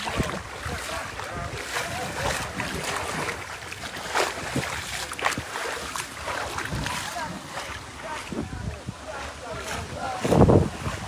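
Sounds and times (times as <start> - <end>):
river water splashing: 0.0 - 11.0
wind on microphone: 0.0 - 11.0.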